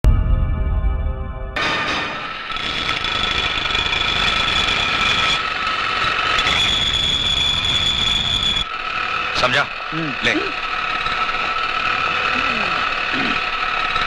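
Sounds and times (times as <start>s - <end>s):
workshop machine whining and grinding: 1.6s - 14.0s.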